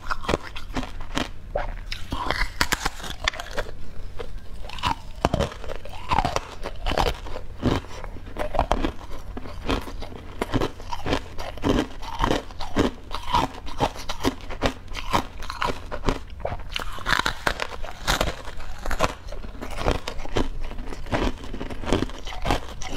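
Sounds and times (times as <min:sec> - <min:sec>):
crunching pastry chewing: 0:00.0 - 0:22.9.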